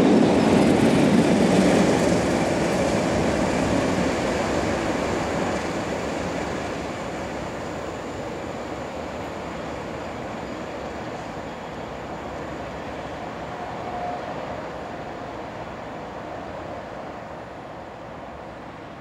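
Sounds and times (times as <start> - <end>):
diesel train rumbling: 0.0 - 19.0.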